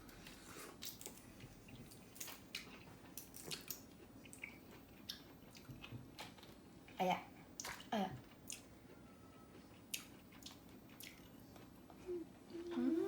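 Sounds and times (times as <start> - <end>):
people eating juicy fruit: 0.0 - 6.6, 7.6 - 13.0.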